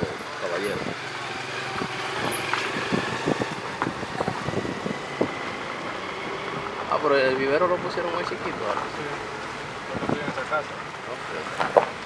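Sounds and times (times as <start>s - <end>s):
vehicle driving on road: 0.0s - 12.0s.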